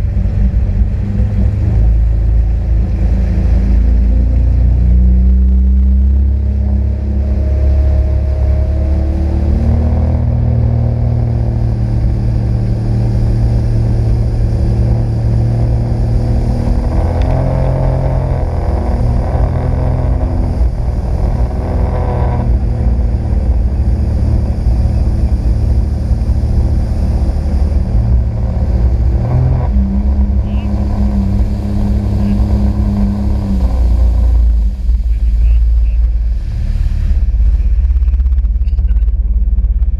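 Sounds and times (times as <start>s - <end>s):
jet ski engine rumbling: 0.0s - 39.9s.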